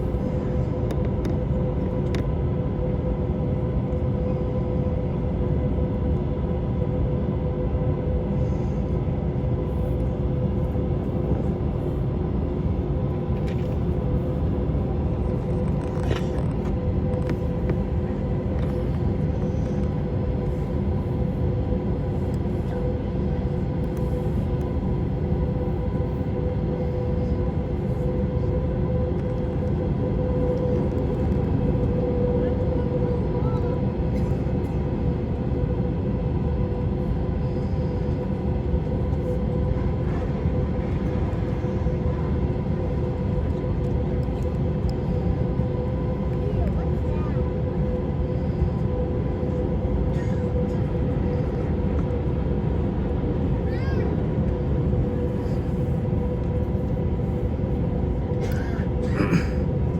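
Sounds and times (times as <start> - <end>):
jet cabin engine hum: 0.0 - 59.9.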